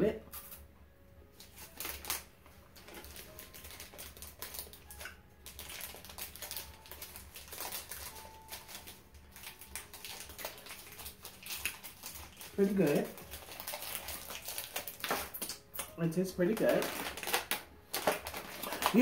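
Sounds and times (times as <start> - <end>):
plastic wrappers crinkling: 1.3 - 19.0.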